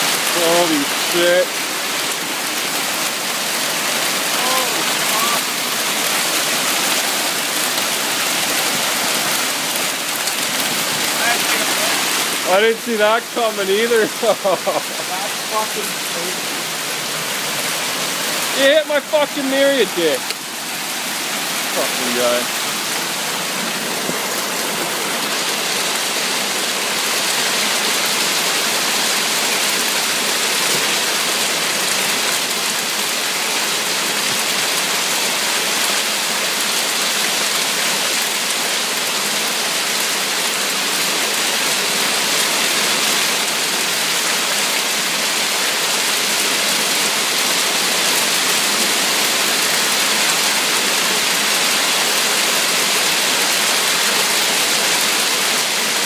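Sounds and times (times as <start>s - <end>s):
hail and rain pelting: 0.0s - 56.0s.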